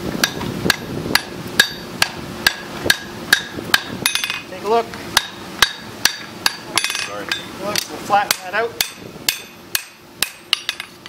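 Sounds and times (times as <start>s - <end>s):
hammer striking steel on anvil: 0.2s - 4.5s, 5.2s - 10.9s.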